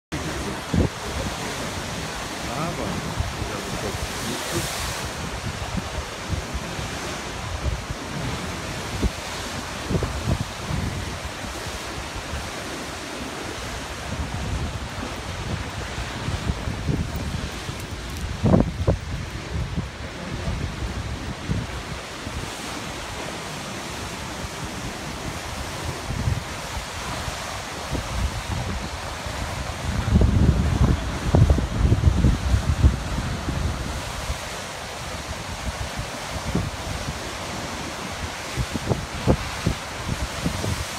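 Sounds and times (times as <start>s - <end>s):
ocean surf breaking: 0.1s - 40.9s
wind buffeting microphone: 0.1s - 40.9s.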